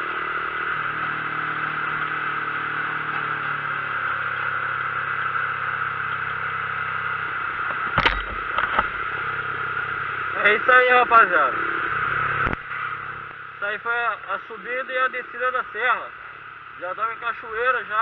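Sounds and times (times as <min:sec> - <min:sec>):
road and wind noise: 0:00.0 - 0:18.0
vehicle engine running: 0:00.0 - 0:18.0.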